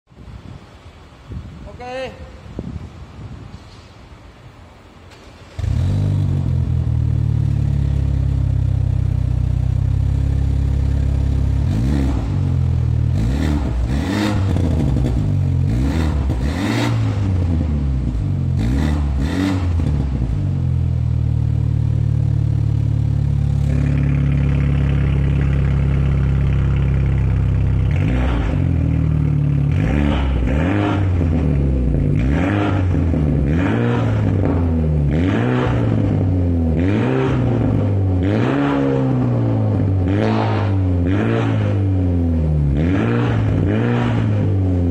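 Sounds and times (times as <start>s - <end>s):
car exhaust idling and revving: 5.5s - 44.9s.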